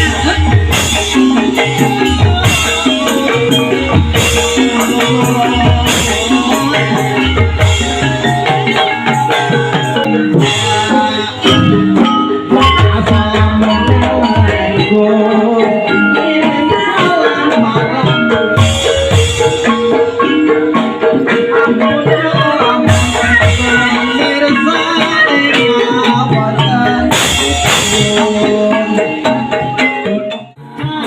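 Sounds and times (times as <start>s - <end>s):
drum beats: 0.0s - 31.0s.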